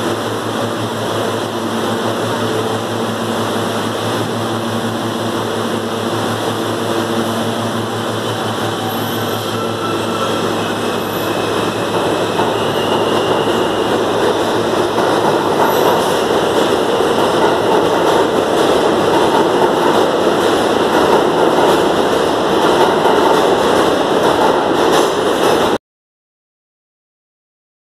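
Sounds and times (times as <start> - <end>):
subway train accelerating past: 0.0 - 25.8.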